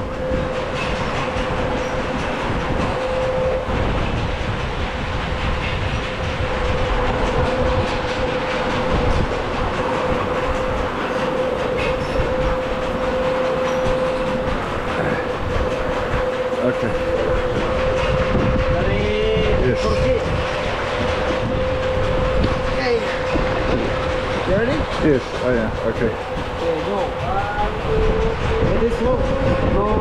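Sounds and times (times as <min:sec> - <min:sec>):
constant hum: 0:00.0 - 0:30.0.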